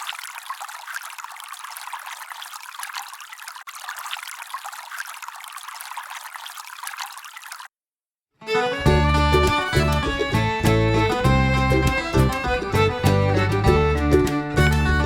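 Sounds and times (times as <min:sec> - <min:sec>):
water pouring and trickling: 0:00.0 - 0:07.8, 0:08.8 - 0:15.0.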